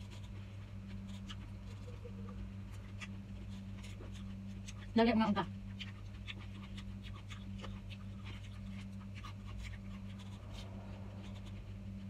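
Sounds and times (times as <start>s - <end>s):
crisp chewing crunches: 0.0s - 12.0s
steady low hum: 0.0s - 12.0s.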